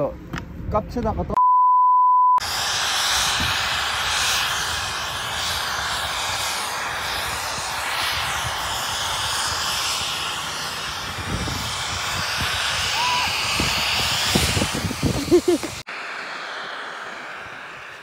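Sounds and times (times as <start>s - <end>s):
skis hissing on packed snow: 2.4s - 18.0s
wind rushing over microphone: 2.4s - 18.0s.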